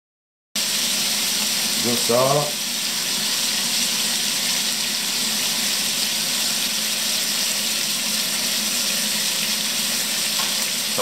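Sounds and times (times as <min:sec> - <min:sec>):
scallops sizzling in frying pan: 0:00.6 - 0:11.0.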